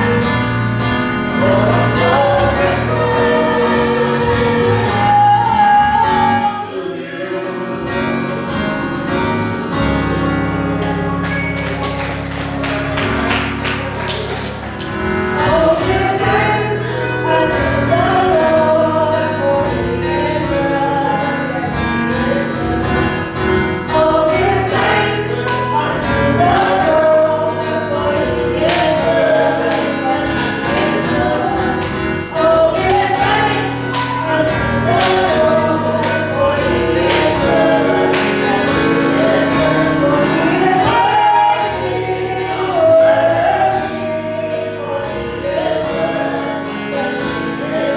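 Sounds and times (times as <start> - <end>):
gospel choir singing: 0.0 - 47.9.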